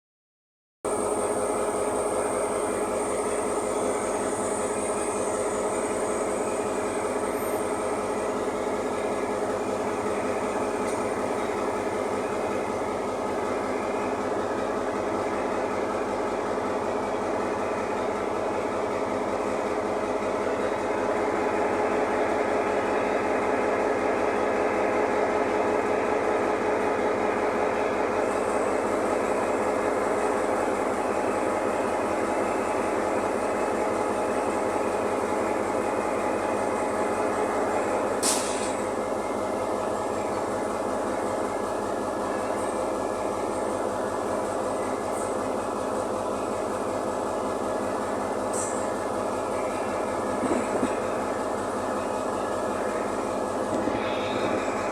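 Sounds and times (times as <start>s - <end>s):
diesel locomotive idling: 0.9s - 54.9s.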